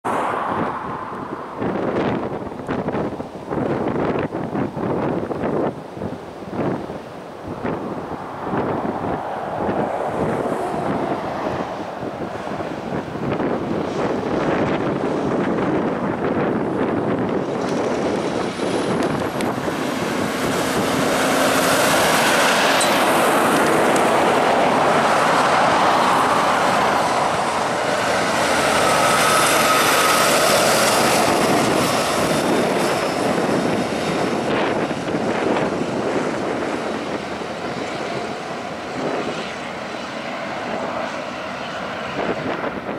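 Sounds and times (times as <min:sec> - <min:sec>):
heavy trucks passing: 0:00.0 - 0:42.9
truck tyres on road: 0:00.0 - 0:42.9.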